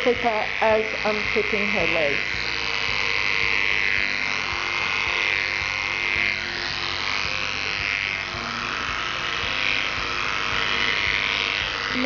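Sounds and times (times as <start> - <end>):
pet clipper buzzing: 0.0 - 12.0.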